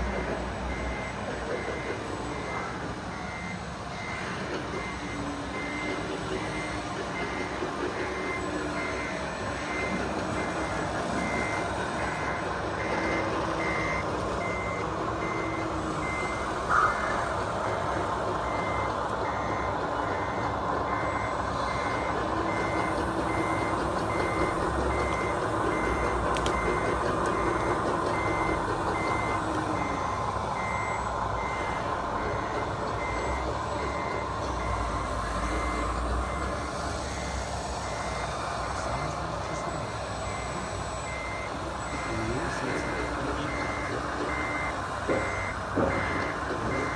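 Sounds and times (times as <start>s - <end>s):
mechanical running noise: 0.0s - 46.9s
reversing beeper: 0.0s - 46.9s.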